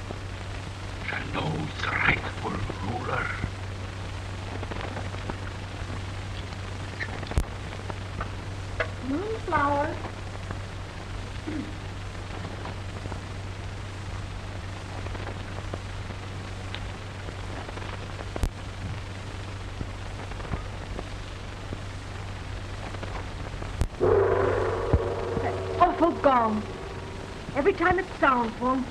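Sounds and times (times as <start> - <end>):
faint crackles: 0.0 - 28.9
film soundtrack hiss and hum: 0.0 - 28.9.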